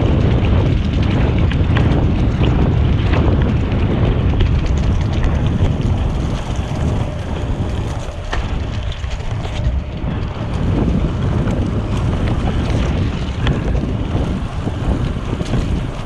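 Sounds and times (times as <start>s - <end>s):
bike tyres rolling on gravel: 0.0s - 16.0s
wind buffeting microphone: 0.0s - 16.0s.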